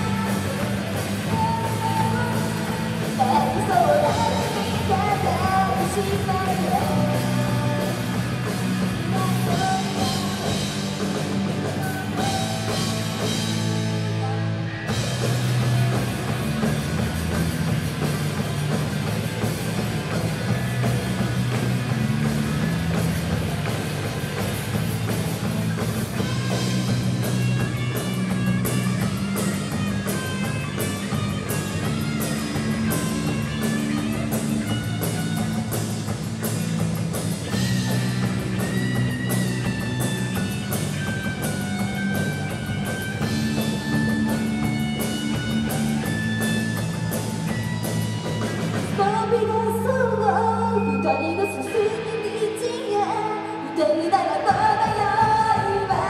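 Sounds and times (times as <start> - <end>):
drum kit with cymbals: 0.0 - 49.9
electric guitars: 0.0 - 56.0
melodic lead guitar line: 0.0 - 56.0.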